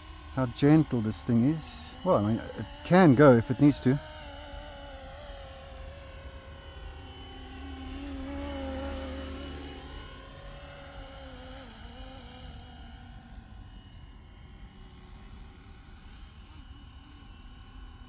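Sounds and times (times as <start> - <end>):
rc helicopter motor and rotor whine: 0.0 - 18.0.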